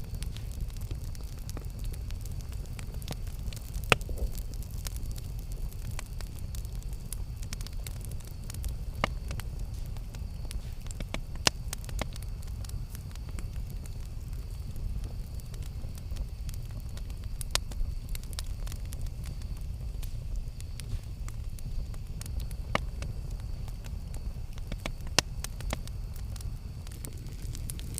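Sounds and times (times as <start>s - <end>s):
campfire crackling: 0.0s - 27.9s
fire pops: 0.0s - 27.9s.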